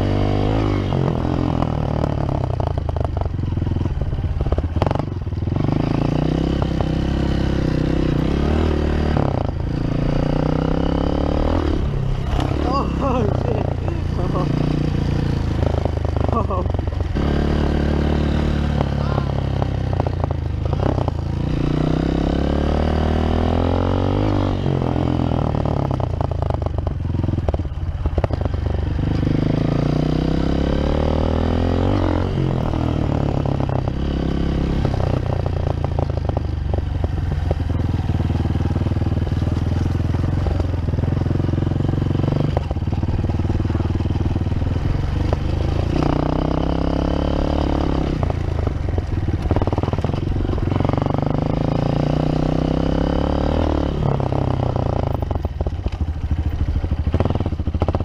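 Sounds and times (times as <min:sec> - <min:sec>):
dirt bike engine revving: 0:00.0 - 0:02.8, 0:03.7 - 0:26.0, 0:28.2 - 0:36.1, 0:37.6 - 0:55.2.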